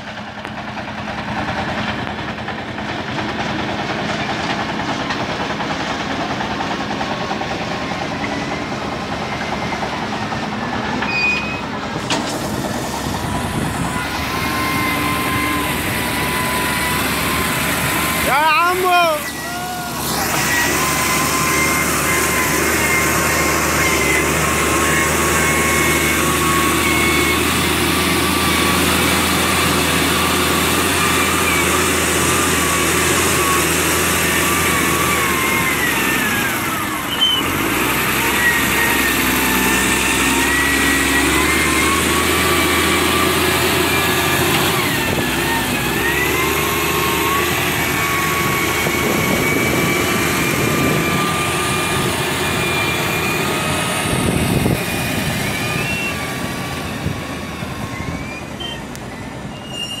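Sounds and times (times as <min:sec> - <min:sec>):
drivetrain whine: 0:00.0 - 1:00.0
wheel loader diesel engine revving: 0:00.0 - 1:00.0.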